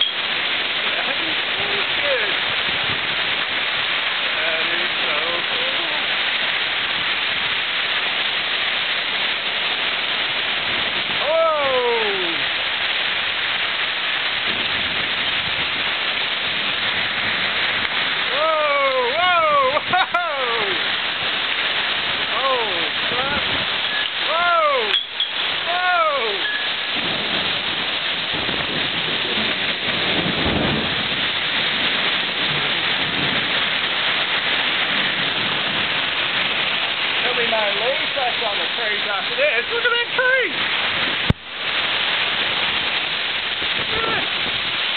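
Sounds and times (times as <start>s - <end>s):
heavy rain and wind in trees: 0.0s - 44.9s
low thunder rumble: 0.1s - 8.2s, 8.9s - 24.8s, 25.4s - 39.7s.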